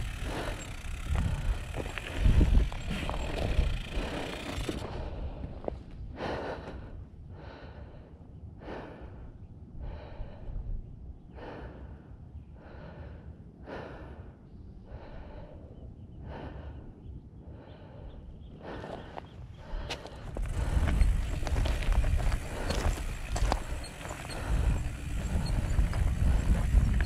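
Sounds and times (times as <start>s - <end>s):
person breathing hard: 0.0s - 27.0s.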